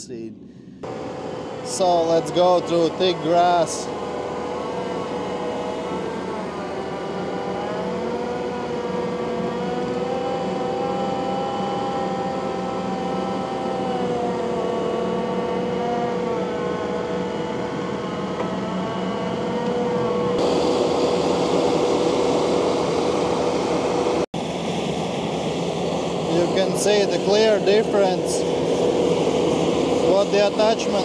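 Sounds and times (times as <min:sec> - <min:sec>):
hydraulic whine: 0:00.5 - 0:31.0.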